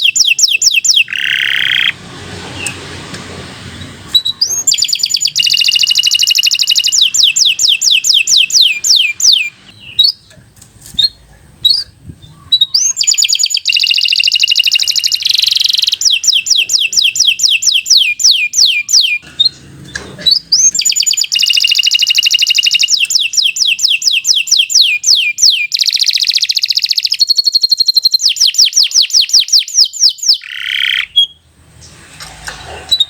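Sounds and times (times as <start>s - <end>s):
canary singing trills: 0.0s - 2.0s, 3.7s - 31.5s.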